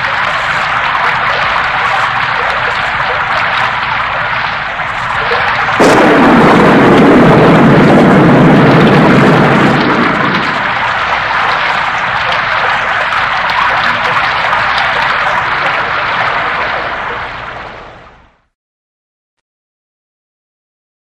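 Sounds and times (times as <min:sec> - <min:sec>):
thunderclap rumbling: 0:00.0 - 0:18.1
heavy rain: 0:00.0 - 0:18.4.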